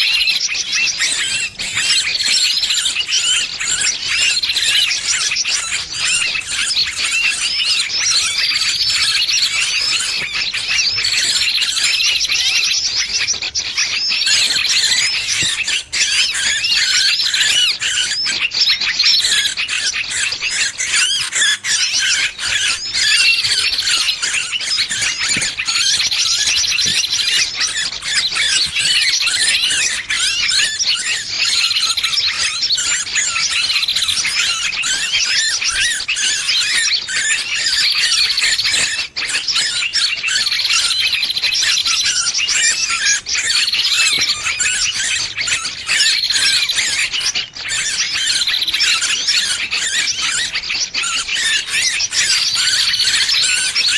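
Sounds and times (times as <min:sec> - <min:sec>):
bird distress calls: 0:00.0 - 0:53.9.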